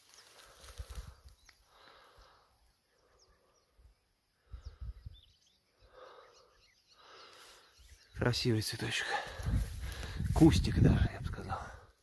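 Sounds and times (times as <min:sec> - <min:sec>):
distant bird chirps: 0:00.0 - 0:10.2.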